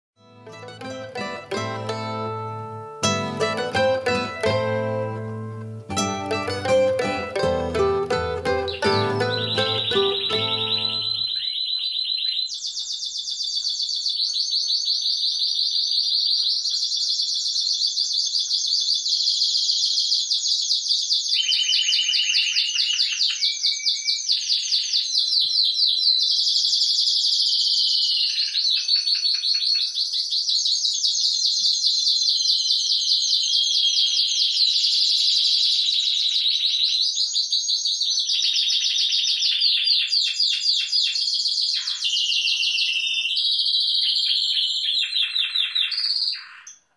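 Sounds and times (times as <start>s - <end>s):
canaries singing: 0.6s - 46.9s.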